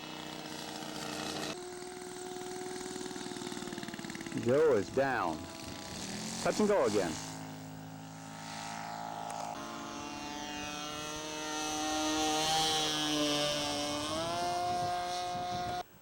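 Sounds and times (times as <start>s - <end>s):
model airplane propeller drone: 0.0s - 16.0s.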